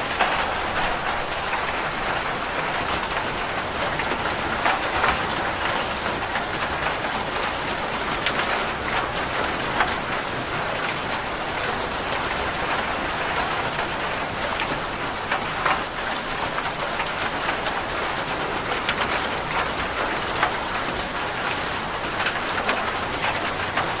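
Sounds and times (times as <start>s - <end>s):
heavy rain on a roof: 0.0s - 24.0s.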